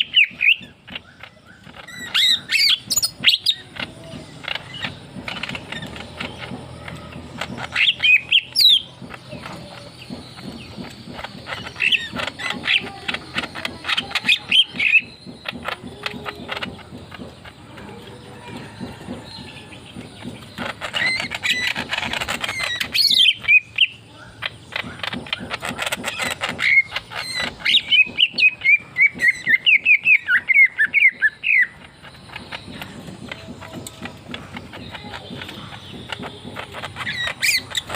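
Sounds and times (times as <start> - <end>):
bird chattering song: 0.0 - 37.9.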